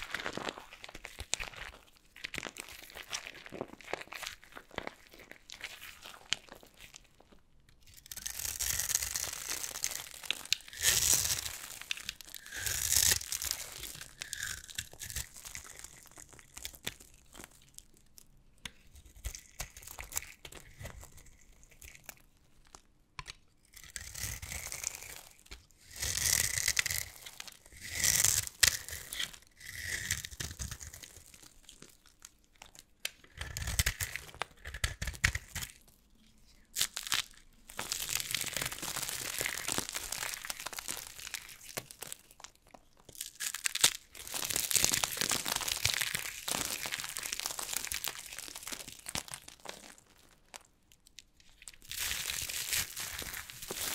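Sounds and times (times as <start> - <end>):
soap crunching and crumbling: 0.0 - 53.9.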